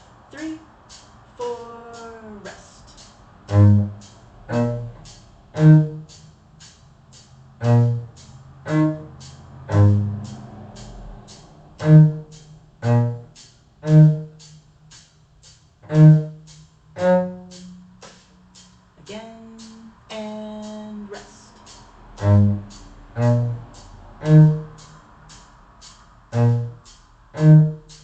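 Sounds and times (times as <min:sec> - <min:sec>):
faint metronome click: 0:00.0 - 0:28.0
cello bowing single notes: 0:00.9 - 0:28.0.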